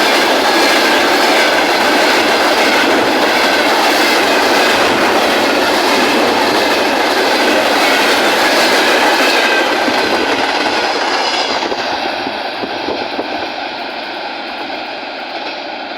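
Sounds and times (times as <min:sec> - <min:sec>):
train wheels clattering over rails: 0:00.0 - 0:15.9.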